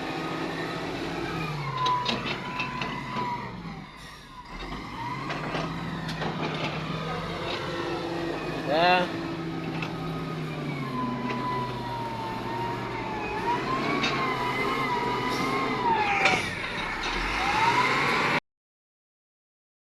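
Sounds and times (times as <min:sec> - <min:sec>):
diesel machinery running: 0:00.0 - 0:18.4.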